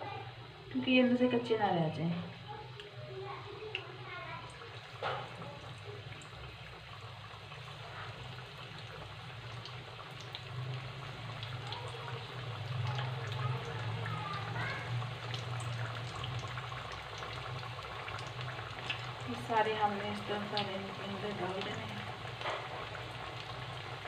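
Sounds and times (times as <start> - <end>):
food deep-frying in oil: 0.0 - 24.0.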